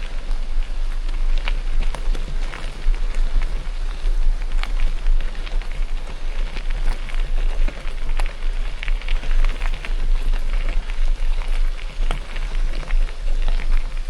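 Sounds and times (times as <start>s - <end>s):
bike clicks and rattles: 0.0s - 14.0s
bike tyres crackling on road: 0.0s - 14.0s
wind rumble on microphone: 0.0s - 14.0s.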